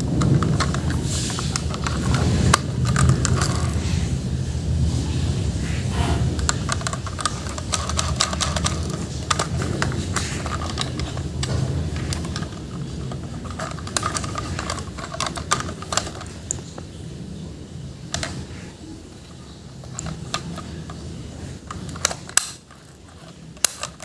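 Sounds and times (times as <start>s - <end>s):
plastic toys and packaging clicking: 0.0s - 4.0s, 6.3s - 17.0s, 18.1s - 24.0s
steady low hum: 0.0s - 24.0s.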